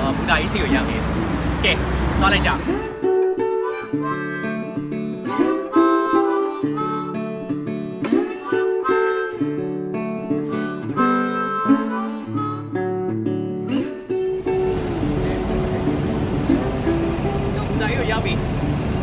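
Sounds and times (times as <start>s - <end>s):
strummed acoustic guitar: 0.0s - 19.0s
harmonica melody: 2.5s - 18.2s.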